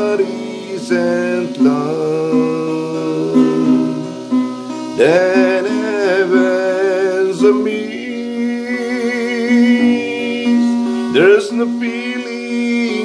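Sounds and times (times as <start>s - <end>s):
acoustic guitar playing: 0.0s - 13.0s
man singing with vibrato: 0.0s - 13.0s.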